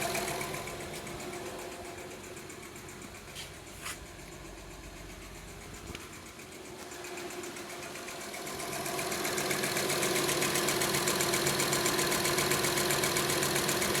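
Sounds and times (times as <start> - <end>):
car engine idling: 0.0 - 14.0
rapid regular engine ticking: 0.0 - 14.0.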